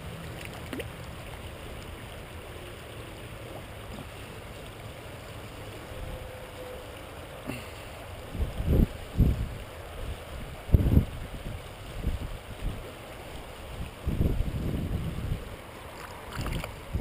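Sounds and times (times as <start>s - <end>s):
shallow river running: 0.0s - 17.0s.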